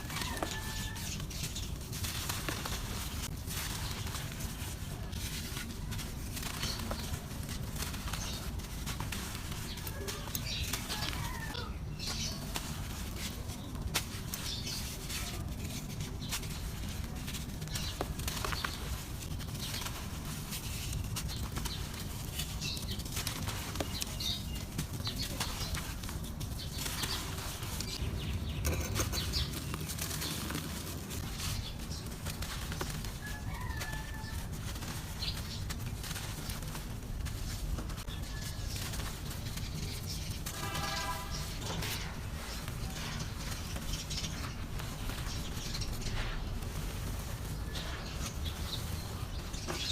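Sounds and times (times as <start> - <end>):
dry dirt crumbling and crackling: 0.0 - 49.9
gritty rustle: 0.0 - 49.9.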